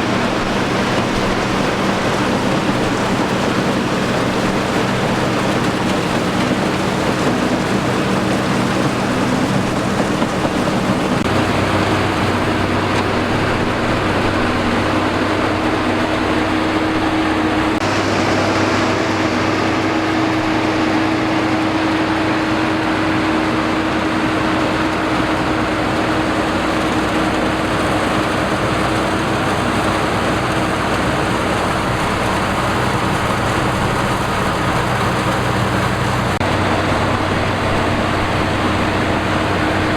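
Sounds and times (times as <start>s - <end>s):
harvesting machine engine running: 0.0s - 39.9s.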